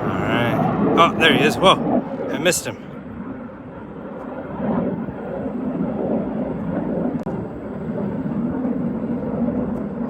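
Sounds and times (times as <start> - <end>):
airplane engine drone overhead: 0.0 - 10.0.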